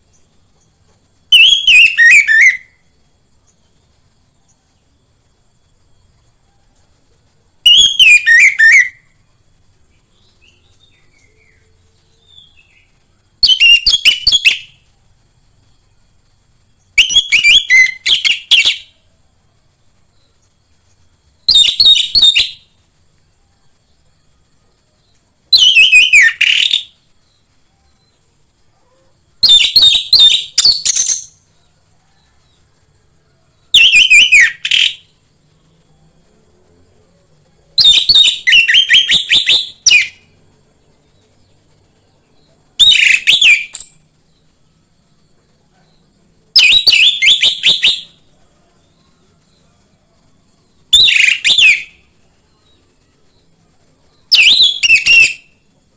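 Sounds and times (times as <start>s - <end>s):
faint high hiss: 0.0s - 55.9s.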